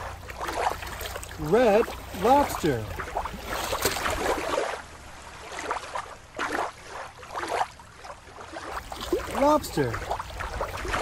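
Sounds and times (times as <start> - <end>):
water gurgling and sloshing: 0.0 - 11.0.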